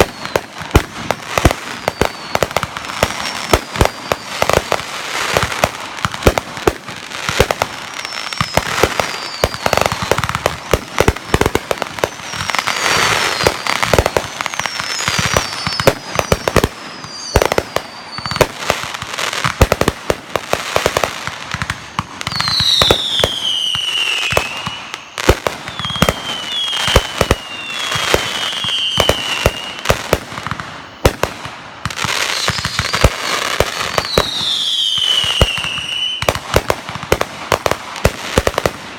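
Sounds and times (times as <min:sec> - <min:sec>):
fireworks bangs and crackles: 0:00.0 - 0:38.9
whistling fireworks: 0:00.0 - 0:38.9.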